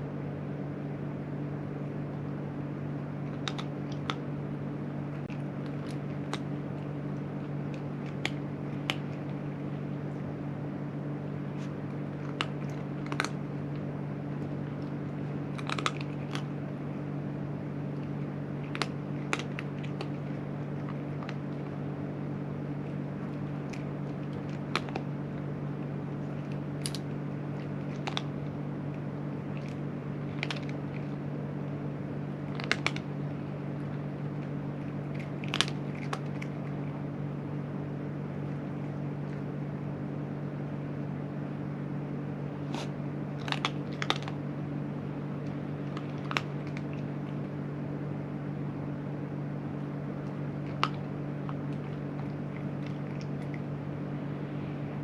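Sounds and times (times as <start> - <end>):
low machine hum: 0.0 - 55.0
cat crunching dry food: 3.2 - 4.4, 5.0 - 39.7, 42.6 - 47.7, 49.8 - 54.0.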